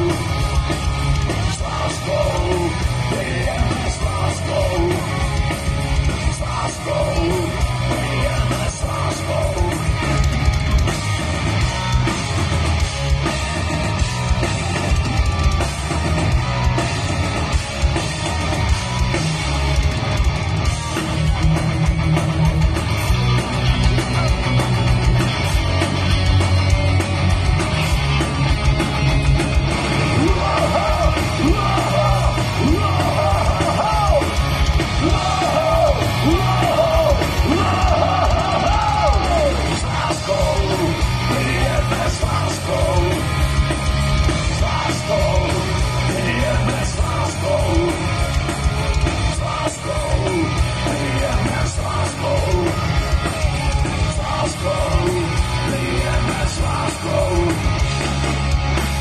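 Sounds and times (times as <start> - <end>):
distorted electric guitars: 0.0 - 59.0
drums: 0.0 - 59.0.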